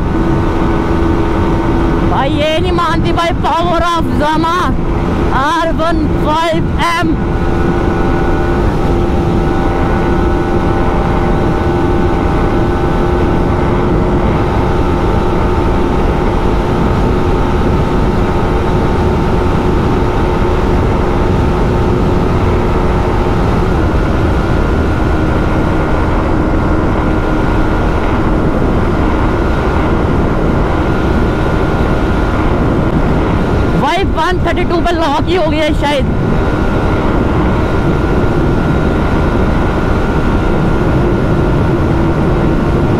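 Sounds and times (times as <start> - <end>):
heavy wind noise: 0.0 - 42.9
motorcycle engine at high speed: 0.0 - 42.9.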